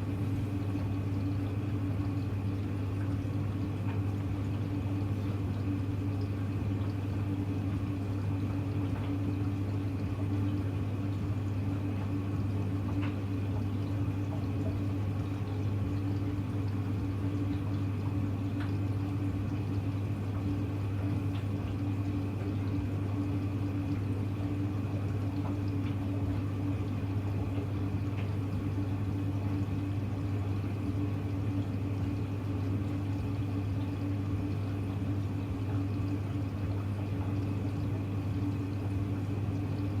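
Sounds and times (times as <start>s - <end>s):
steady electric hum: 0.0s - 40.0s
water running in washing machine: 0.0s - 40.0s.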